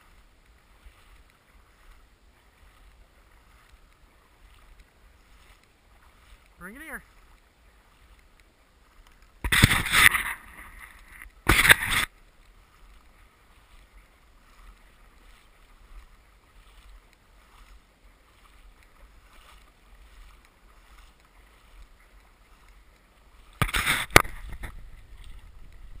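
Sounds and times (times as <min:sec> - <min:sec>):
dog splashing in shallow water: 0:00.0 - 0:26.0.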